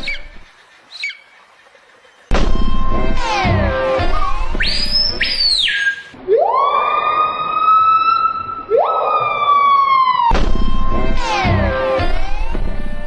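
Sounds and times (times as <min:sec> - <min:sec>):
bird imitating a siren: 0:02.5 - 0:13.0.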